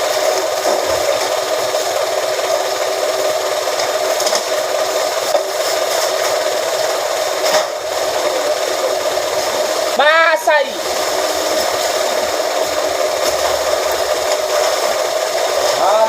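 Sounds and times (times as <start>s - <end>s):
press machine droning: 0.0s - 16.0s.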